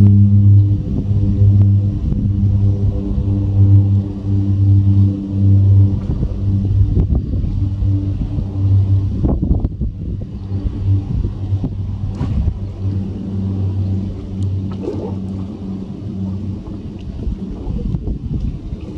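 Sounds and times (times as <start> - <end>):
turboprop plane droning: 0.0 - 18.9
wind buffeting microphone: 0.0 - 18.9.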